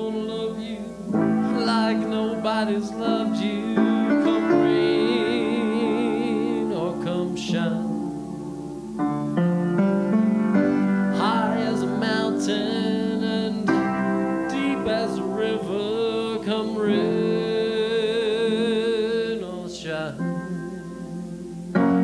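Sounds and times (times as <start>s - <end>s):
person singing jazz ballad: 0.0s - 22.0s
piano chords: 0.0s - 22.0s.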